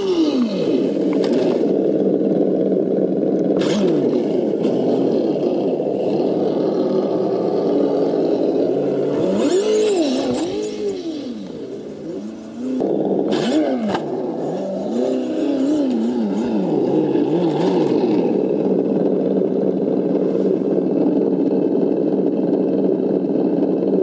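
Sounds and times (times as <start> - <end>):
simulated engine revving: 0.0 - 24.0.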